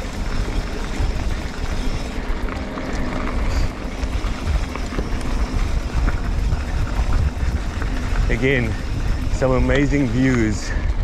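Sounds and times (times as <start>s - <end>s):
bike rattles and clicks: 0.0s - 11.0s
bike tyres rolling on dirt: 0.0s - 11.0s
wind buffeting microphone: 0.0s - 11.0s.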